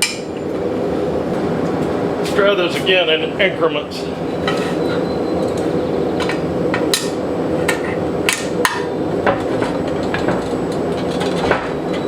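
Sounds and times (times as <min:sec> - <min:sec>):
steady background roar: 0:00.0 - 0:12.0.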